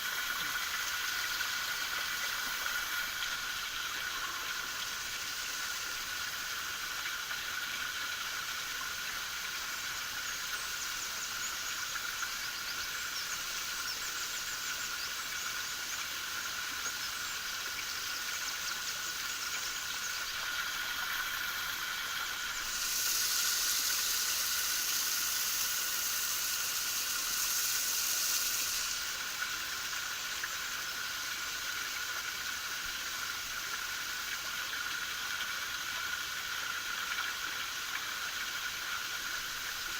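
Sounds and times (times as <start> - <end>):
high water hiss: 0.0 - 39.9
small waterfall rushing and splashing: 0.0 - 39.9.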